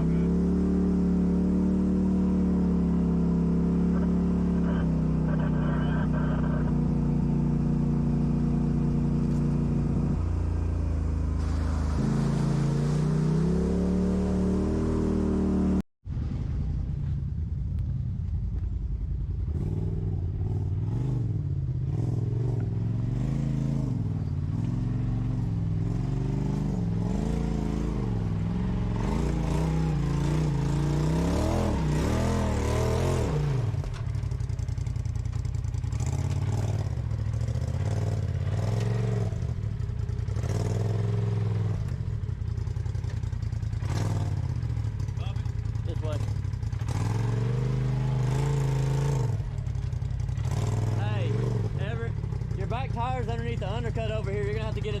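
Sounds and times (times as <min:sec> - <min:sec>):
off-road vehicle engine revving: 0:00.0 - 0:15.8, 0:19.4 - 0:55.0.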